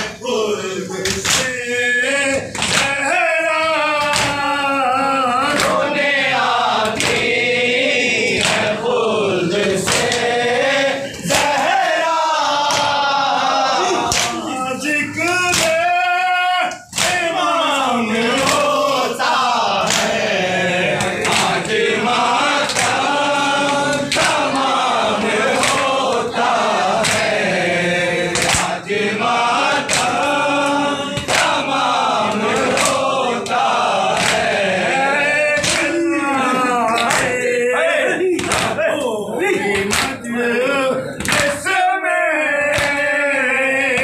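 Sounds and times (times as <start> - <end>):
group of men chanting: 0.0 - 44.0.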